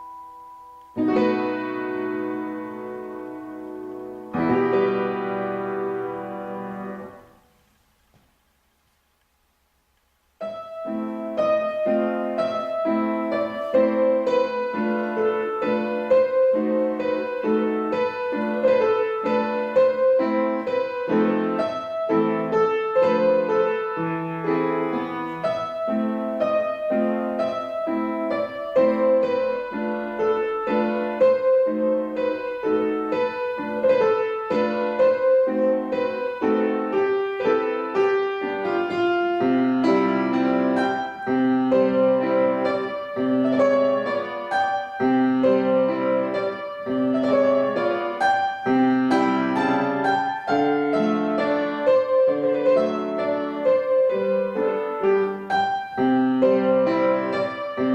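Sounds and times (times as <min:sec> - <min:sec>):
solo piano piece: 0:00.0 - 0:57.9.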